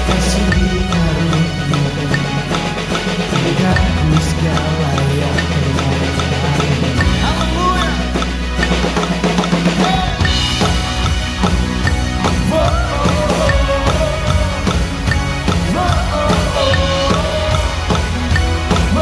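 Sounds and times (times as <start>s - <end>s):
band playing pop-rock song: 0.0s - 19.0s
drum kit beat: 0.0s - 19.0s
held melody line: 0.0s - 19.0s.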